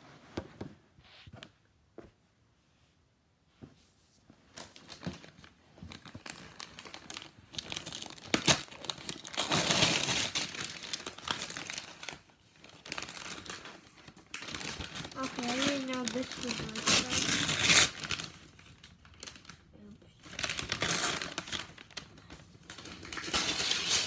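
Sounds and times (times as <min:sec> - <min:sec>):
wrapping paper crinkling and tearing: 0:04.6 - 0:24.0.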